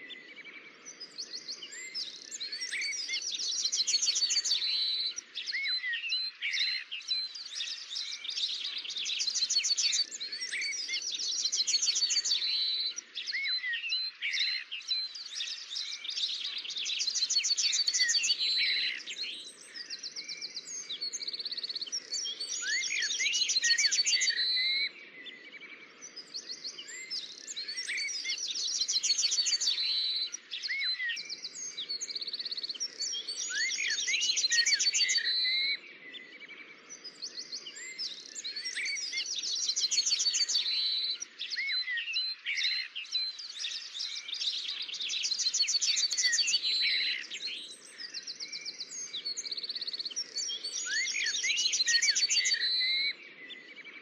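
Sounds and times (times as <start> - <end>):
songbirds trilling: 0.0 - 54.0.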